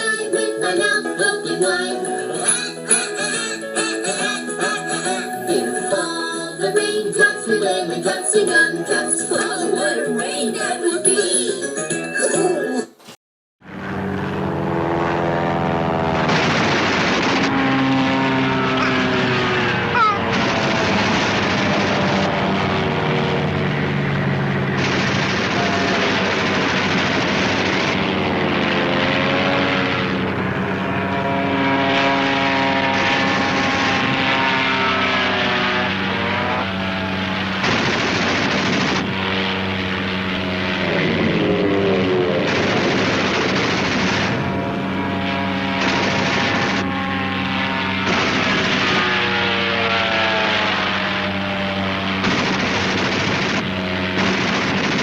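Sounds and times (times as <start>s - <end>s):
propeller aircraft engine droning: 0.0s - 10.4s, 13.6s - 55.0s.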